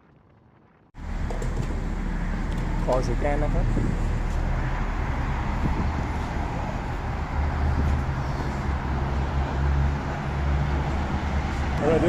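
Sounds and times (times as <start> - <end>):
road and wind noise: 0.9 - 12.0
vehicle engine running: 1.0 - 12.0.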